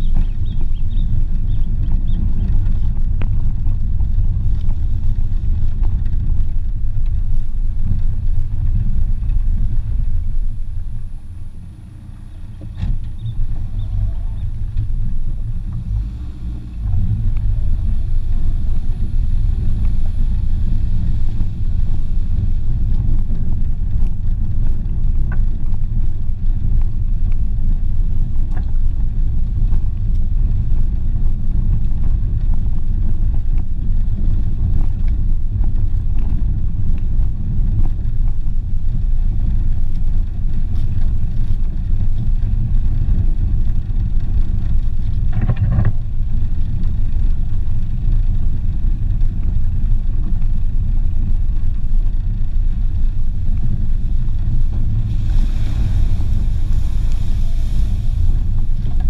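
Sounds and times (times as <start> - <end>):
car rumbling on dirt trail: 0.0 - 59.0.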